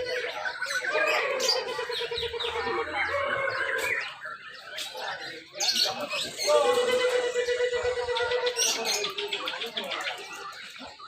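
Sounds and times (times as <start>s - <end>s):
birds chattering and trilling: 0.0s - 11.0s.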